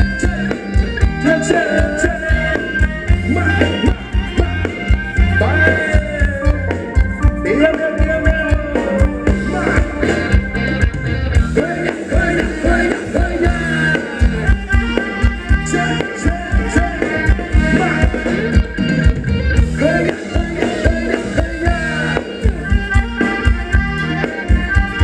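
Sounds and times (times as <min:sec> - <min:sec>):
person singing: 0:00.0 - 0:10.3, 0:11.5 - 0:18.8, 0:19.6 - 0:25.0
heavy bass line: 0:00.0 - 0:25.0
live band playing dance music: 0:00.0 - 0:25.0.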